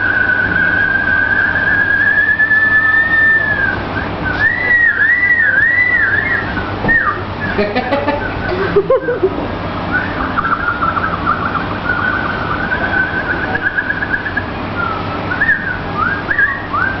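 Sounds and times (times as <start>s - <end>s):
man whistling birdlike warble: 0.0s - 7.6s, 9.8s - 17.0s.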